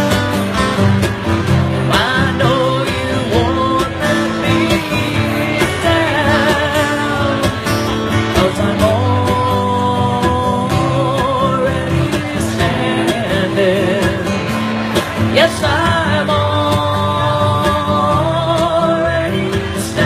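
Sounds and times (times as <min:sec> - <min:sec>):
acoustic guitars playing: 0:00.0 - 0:20.0
person singing: 0:01.6 - 0:20.0.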